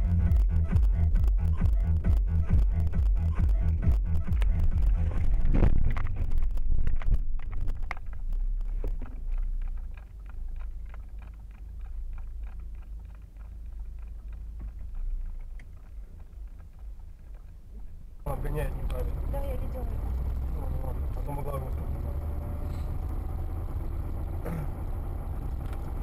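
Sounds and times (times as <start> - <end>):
car driving rumble inside cabin: 0.0 - 26.0.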